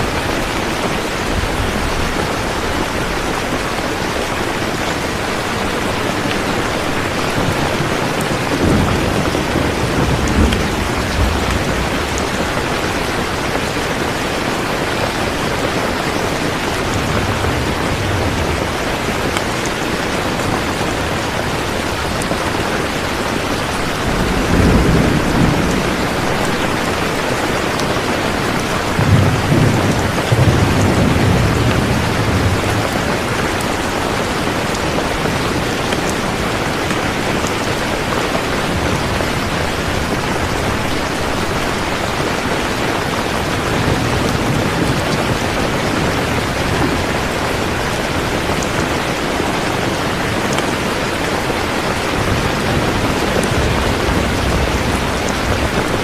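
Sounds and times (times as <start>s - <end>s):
heavy rain: 0.0s - 56.0s
thunder rumbling: 0.0s - 56.0s.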